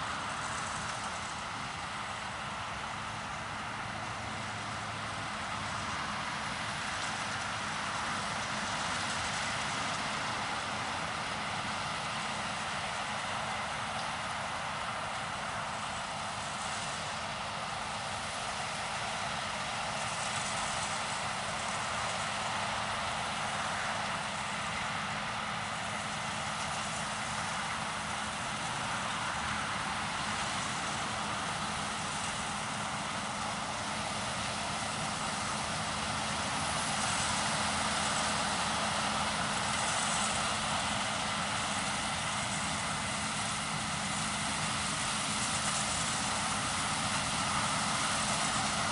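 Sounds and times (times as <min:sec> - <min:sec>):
combine harvester running: 0:00.0 - 0:48.9.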